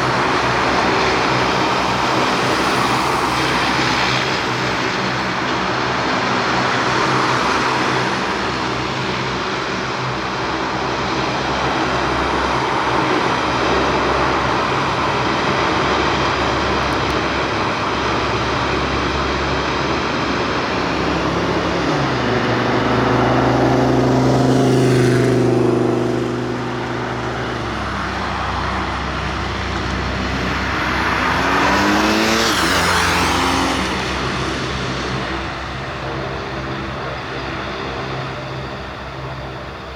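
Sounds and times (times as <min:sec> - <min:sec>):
aircraft passing: 0:00.0 - 0:39.9
turboprop propeller drone: 0:00.0 - 0:39.9.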